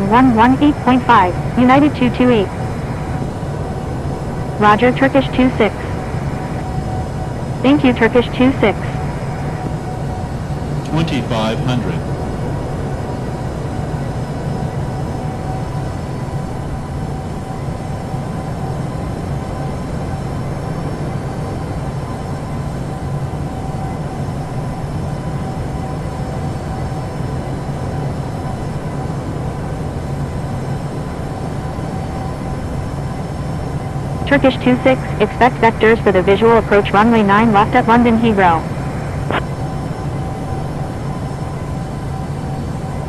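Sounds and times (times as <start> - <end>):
faint whining tones: 0.0 - 43.0.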